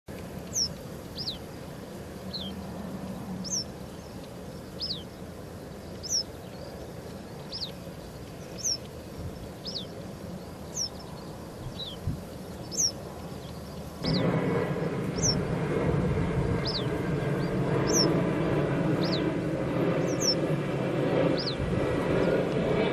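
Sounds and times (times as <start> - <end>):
steady rushing noise: 0.1 - 22.9.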